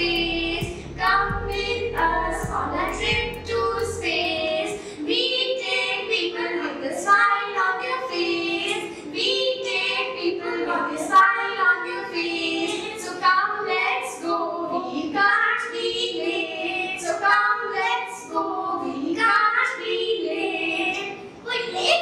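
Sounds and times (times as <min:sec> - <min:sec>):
child and woman singing: 0:00.0 - 0:22.0.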